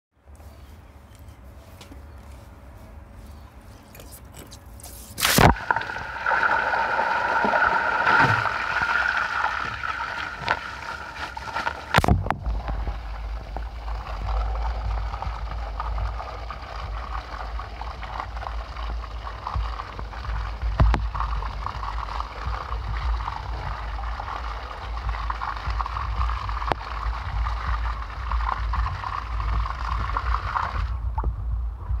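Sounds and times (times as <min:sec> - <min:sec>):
water jet onto concrete: 0:04.0 - 0:30.9
water pouring and splashing: 0:04.0 - 0:31.3.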